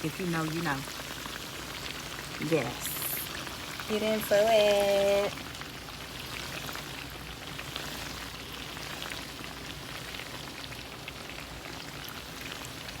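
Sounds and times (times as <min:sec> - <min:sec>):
patties sizzling in hot oil: 0:00.0 - 0:13.0.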